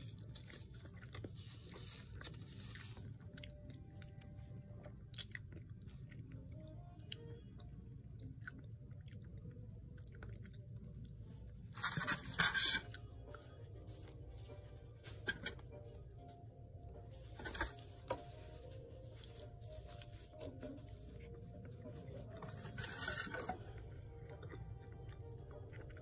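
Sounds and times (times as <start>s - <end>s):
person chewing: 0.0s - 14.6s, 15.4s - 26.0s.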